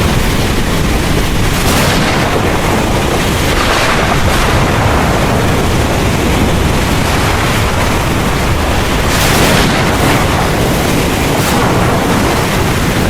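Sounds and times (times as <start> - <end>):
heavy rain pouring: 0.0 - 13.0
thunder rumbling: 0.0 - 13.0.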